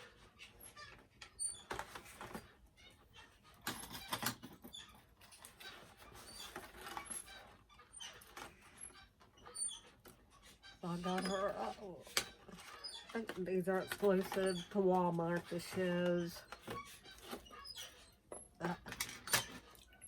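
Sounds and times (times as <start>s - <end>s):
high squeaks: 2.8s - 20.0s.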